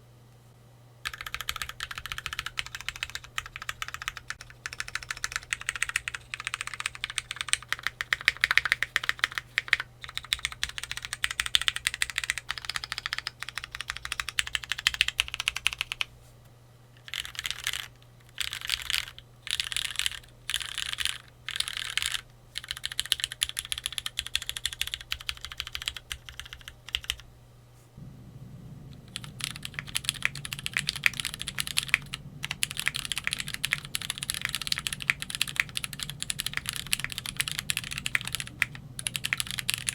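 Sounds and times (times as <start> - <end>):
mechanical keyboard typing: 1.0 - 16.1, 17.0 - 27.2, 29.0 - 39.9.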